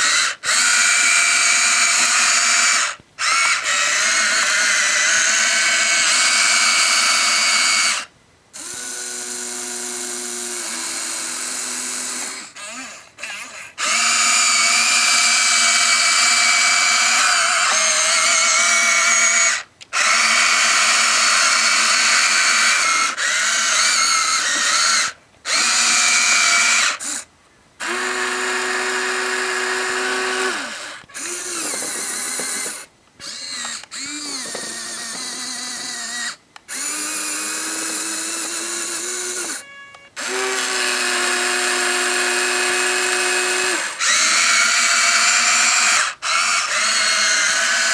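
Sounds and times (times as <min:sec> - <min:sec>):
small electric motors whining: 0:00.0 - 0:47.9.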